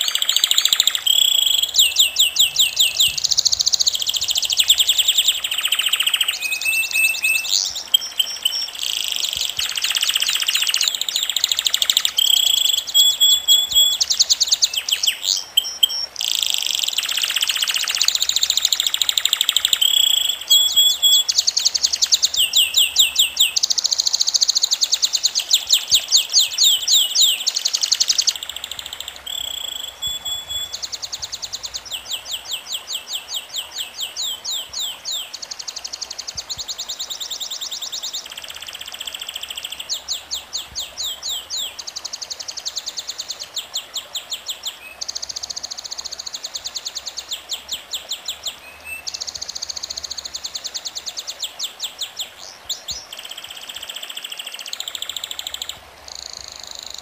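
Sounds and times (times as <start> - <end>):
bird chirping quickly: 0.0 - 57.0.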